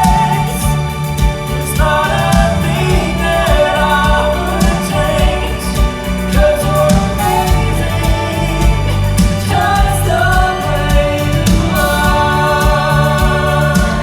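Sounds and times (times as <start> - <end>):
bass: 0.0 - 14.0
steady drum beat: 0.0 - 14.0
woman singing: 0.0 - 14.0.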